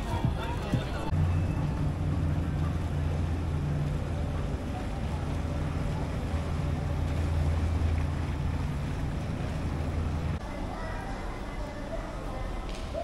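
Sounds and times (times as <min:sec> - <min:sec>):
low machine hum: 0:00.1 - 0:12.4.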